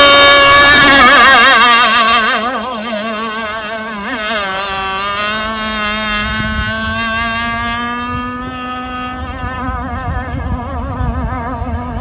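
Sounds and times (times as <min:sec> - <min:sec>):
rc boat motor whining: 0:00.0 - 0:12.0
wind rumbling on microphone: 0:00.0 - 0:12.0.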